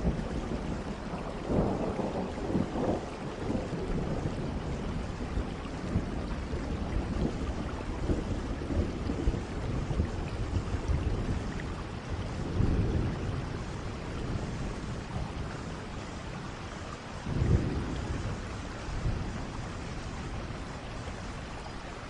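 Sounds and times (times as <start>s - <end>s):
rolls of thunder: 0.0s - 15.9s, 17.2s - 20.7s
steady rain: 0.0s - 22.0s.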